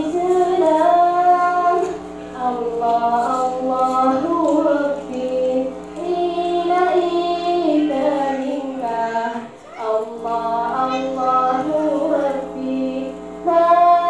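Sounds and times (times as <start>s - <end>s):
low electrical hum: 0.0s - 14.0s
woman singing through loudspeakers: 0.0s - 14.0s.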